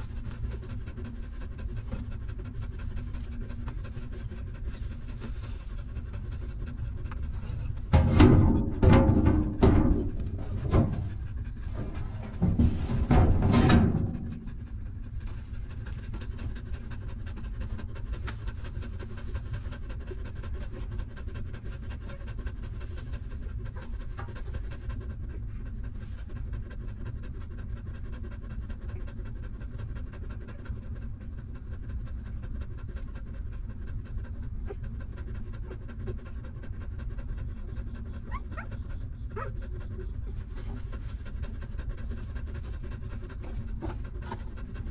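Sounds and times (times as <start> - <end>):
dog panting: 0.0 - 44.9.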